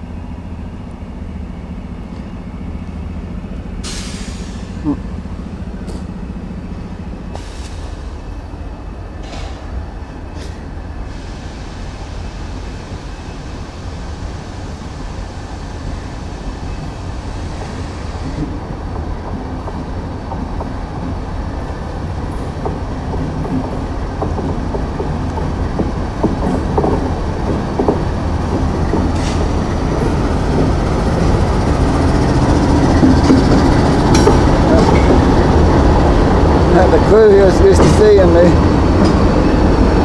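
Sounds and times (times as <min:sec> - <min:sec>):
diesel locomotive engines rumbling: 0:00.0 - 0:40.0.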